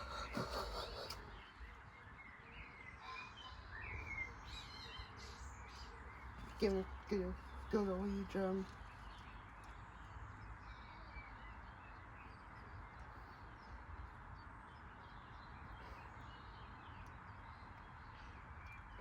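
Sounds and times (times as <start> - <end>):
distant bird calls: 0.0 - 19.0.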